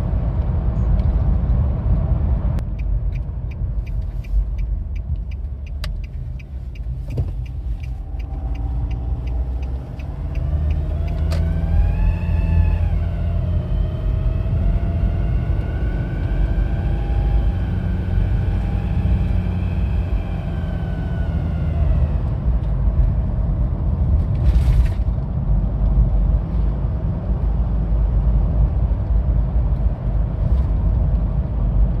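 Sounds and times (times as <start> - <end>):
diesel engine rumbling: 0.0 - 32.0.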